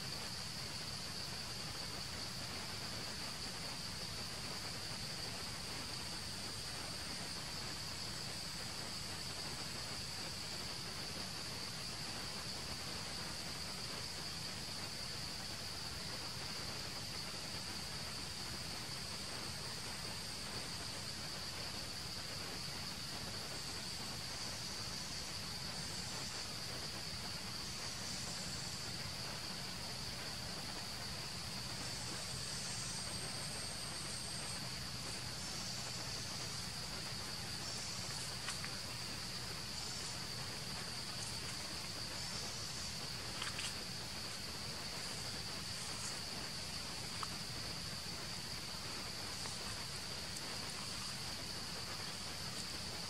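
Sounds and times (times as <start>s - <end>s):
higher soft insect layer: 0.0s - 53.0s
insects droning: 0.0s - 53.0s.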